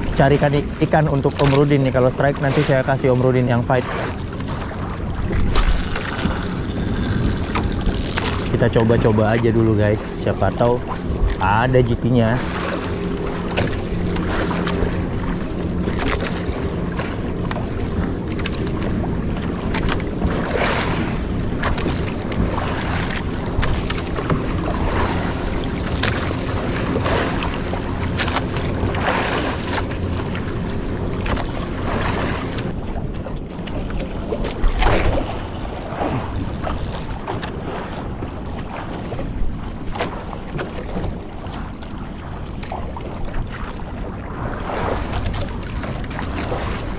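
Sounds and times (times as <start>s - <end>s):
boat engine hum: 0.0s - 46.9s
water slapping against a hull: 0.0s - 46.9s
wind buffeting microphone: 0.0s - 46.9s.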